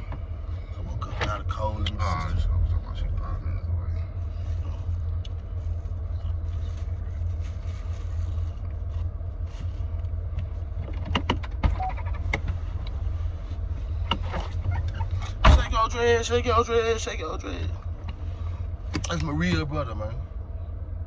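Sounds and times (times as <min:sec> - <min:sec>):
car rumble from inside cabin: 0:00.0 - 0:21.0.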